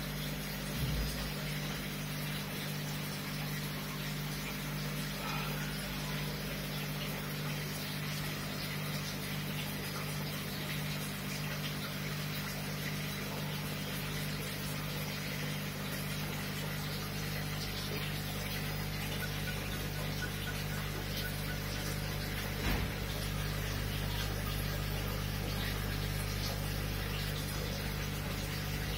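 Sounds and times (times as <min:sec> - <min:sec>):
aquarium pump humming: 0:00.0 - 0:28.9.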